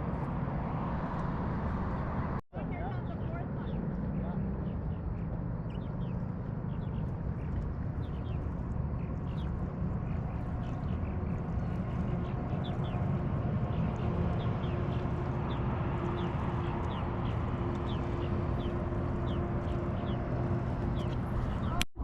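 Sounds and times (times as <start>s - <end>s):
motorboat engine rumble: 0.0s - 22.0s.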